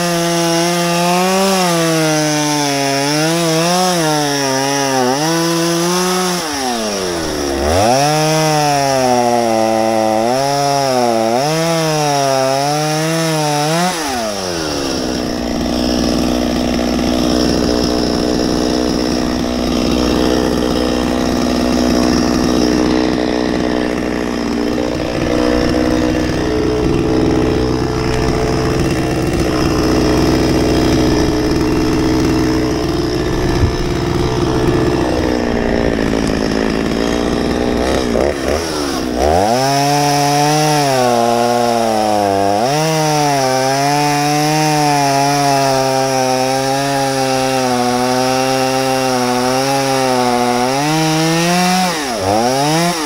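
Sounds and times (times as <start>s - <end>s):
chainsaw cutting logs: 0.0s - 53.0s.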